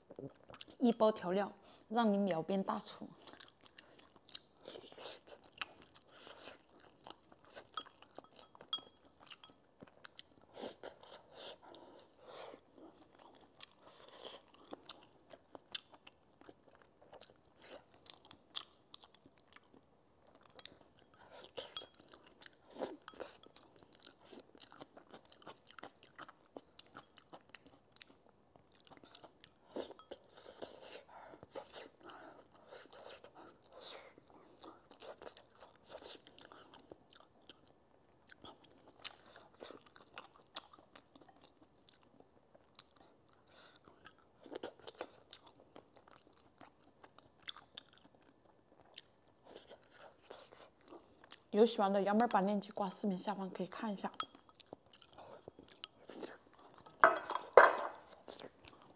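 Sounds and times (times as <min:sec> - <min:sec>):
close chewing: 0:00.0 - 0:00.9, 0:02.7 - 0:58.9.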